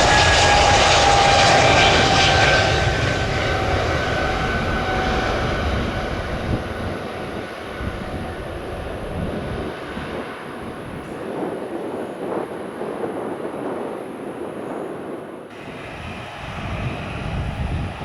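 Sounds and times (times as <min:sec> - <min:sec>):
jet aircraft passing: 0:00.0 - 0:13.9, 0:15.5 - 0:18.0
high jet engine whine: 0:00.0 - 0:18.0.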